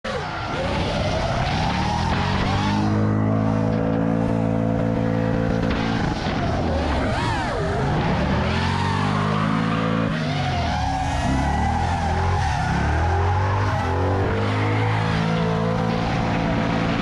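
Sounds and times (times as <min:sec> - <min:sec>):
engine running at high revs: 0:00.0 - 0:17.0.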